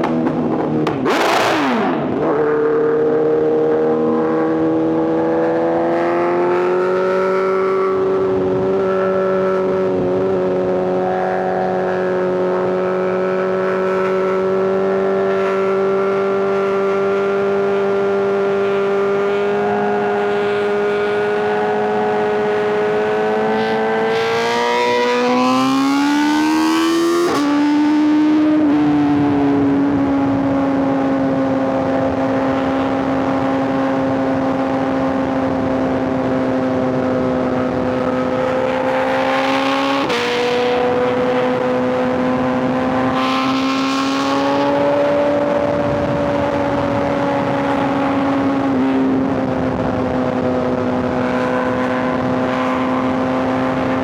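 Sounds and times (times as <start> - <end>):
low steady motorcycle engine: 0.0 - 54.0
motorcycle engine revving: 0.0 - 54.0.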